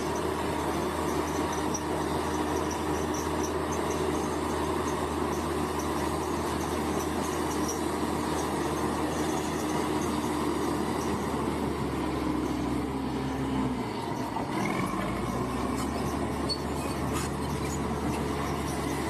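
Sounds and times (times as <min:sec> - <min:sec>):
crawler tracks squealing and clattering: 0:00.0 - 0:19.0
diesel engine running: 0:00.0 - 0:19.0.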